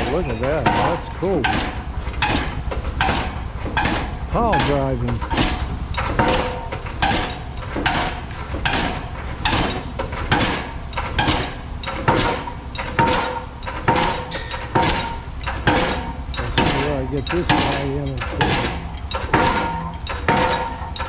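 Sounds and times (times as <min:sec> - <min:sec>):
pile driver hammering: 0:00.0 - 0:21.0.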